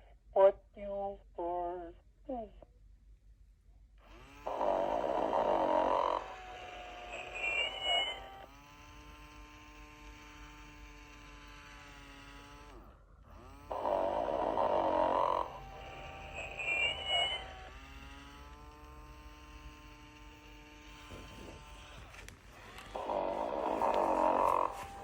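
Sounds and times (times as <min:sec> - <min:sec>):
toy snoring: 0:04.1 - 0:25.0.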